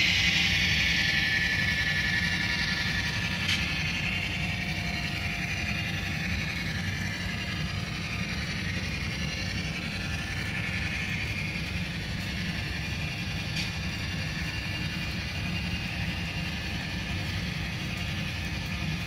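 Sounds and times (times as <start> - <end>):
continuous high hiss: 0.0 - 19.0
model train wheels rumbling on rails: 0.0 - 19.0.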